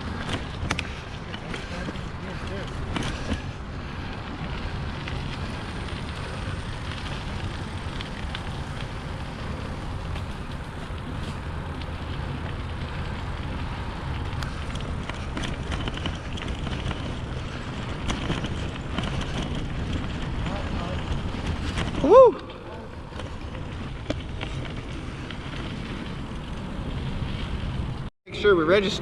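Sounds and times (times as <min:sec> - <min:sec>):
bike clicks and rattles: 0:00.0 - 0:28.1
wind buffeting microphone: 0:00.0 - 0:28.1
bicycle tyre rolling noise: 0:00.0 - 0:29.0.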